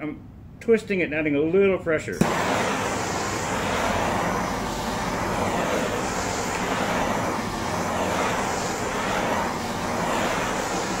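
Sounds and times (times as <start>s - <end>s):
gas torch hissing: 2.1s - 11.0s.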